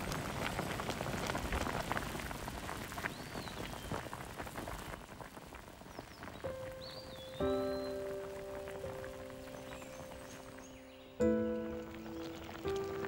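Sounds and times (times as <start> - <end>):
broth boiling in a pot: 0.0 - 13.0.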